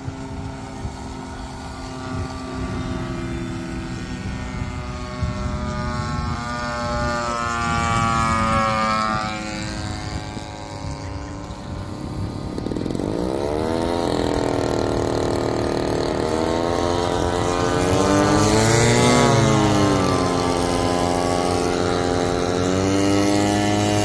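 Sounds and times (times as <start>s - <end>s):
model airplane engine droning: 0.0s - 24.0s.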